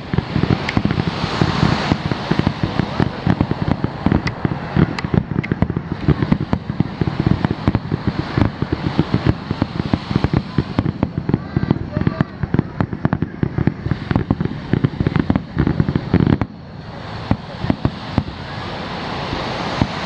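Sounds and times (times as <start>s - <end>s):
fireworks pops and crackles: 0.0s - 20.0s
low rumble and buffeting: 0.0s - 20.0s.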